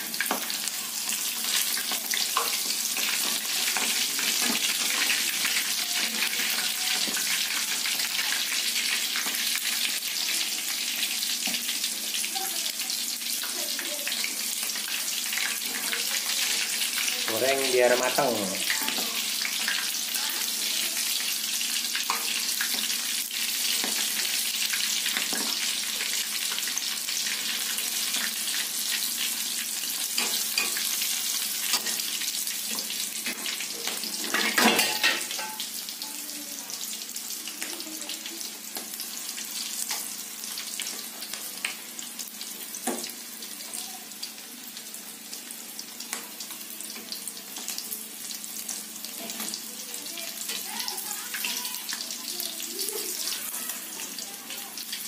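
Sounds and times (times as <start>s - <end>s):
oil sizzling and crackling: 0.0s - 55.0s.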